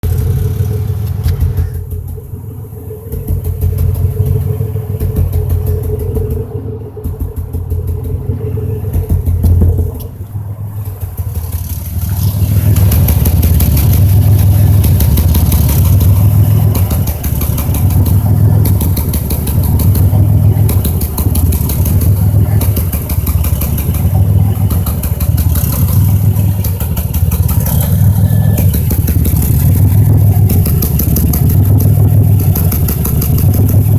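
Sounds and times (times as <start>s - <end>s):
car engine running with rhythmic stutter: 0.0s - 33.9s.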